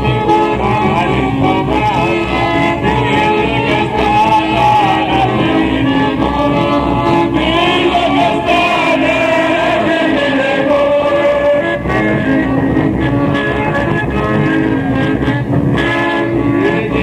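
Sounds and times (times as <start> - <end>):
solo voice singing folk song: 0.0 - 15.1, 16.0 - 17.0.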